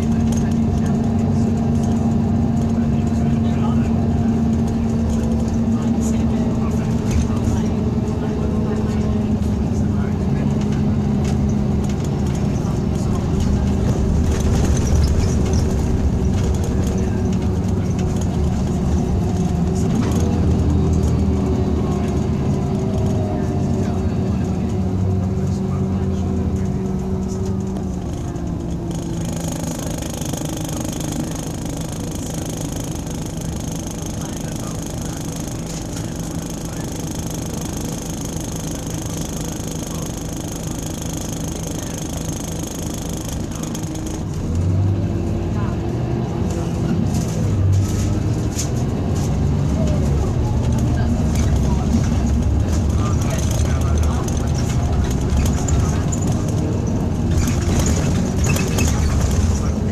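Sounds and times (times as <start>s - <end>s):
coach engine drone: 0.0s - 59.9s
road noise: 0.0s - 59.9s.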